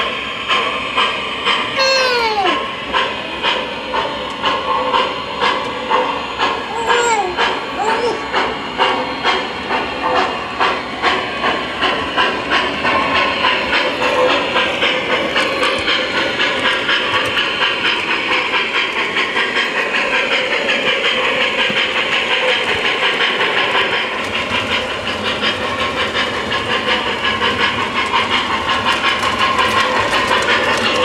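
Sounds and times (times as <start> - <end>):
model train running on track: 0.0 - 31.0
model train steam chuffing: 0.0 - 31.0.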